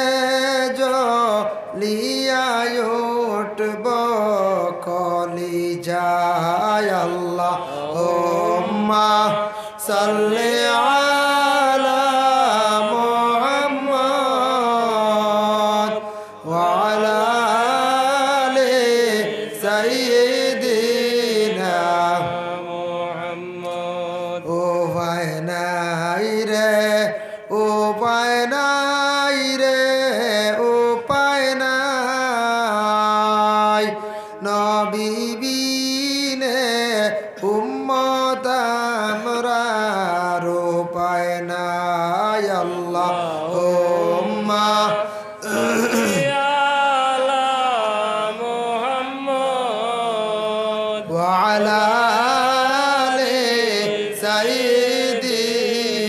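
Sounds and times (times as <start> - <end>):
man singing devotional song: 0.0 - 56.0.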